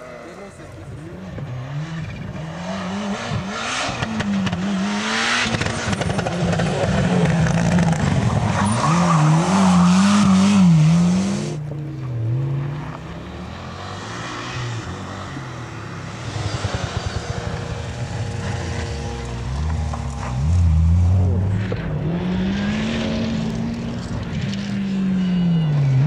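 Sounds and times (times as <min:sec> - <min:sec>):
distant rally car: 0:00.0 - 0:26.0
rally car engine revving: 0:00.0 - 0:26.0.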